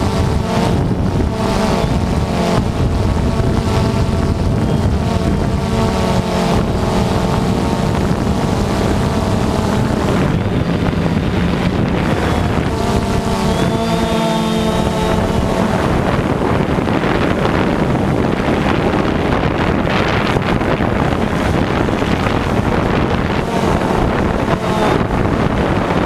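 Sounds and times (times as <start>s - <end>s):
drone propellers whining: 0.0s - 26.0s
wind buffeting microphone: 0.0s - 26.0s.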